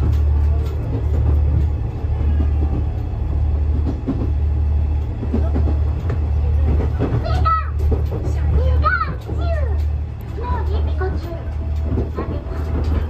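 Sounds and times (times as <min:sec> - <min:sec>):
diesel railcar drone: 0:00.0 - 0:13.0
rattle of passenger car: 0:00.0 - 0:13.0.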